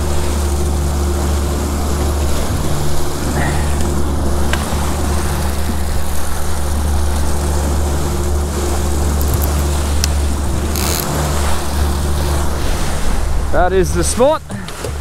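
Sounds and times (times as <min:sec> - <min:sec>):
outboard motor running: 0:00.0 - 0:15.0
water rushing in wake: 0:00.0 - 0:15.0.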